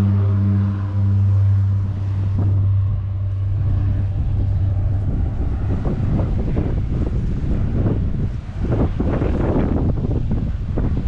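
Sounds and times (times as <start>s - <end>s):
propeller engines droning: 0.0s - 11.0s
wind on microphone: 0.0s - 11.0s.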